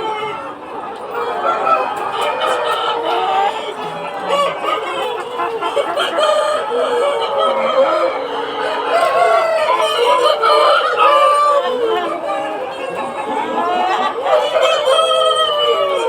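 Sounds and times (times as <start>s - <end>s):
hens clucking: 0.0s - 16.0s
roosters crowing: 0.0s - 16.0s.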